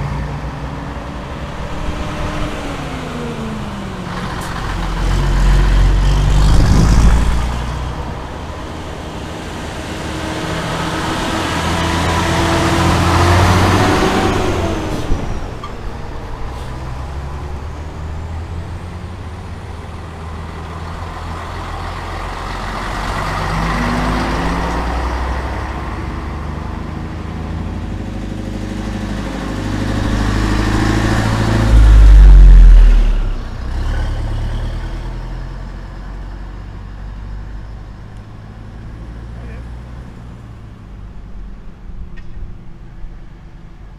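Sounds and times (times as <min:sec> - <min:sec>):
diesel trucks driving past: 0:00.0 - 0:43.9.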